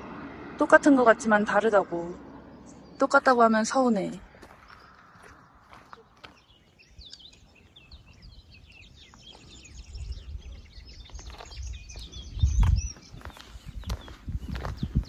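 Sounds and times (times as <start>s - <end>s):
small birds chirping and singing: 2.2s - 15.0s.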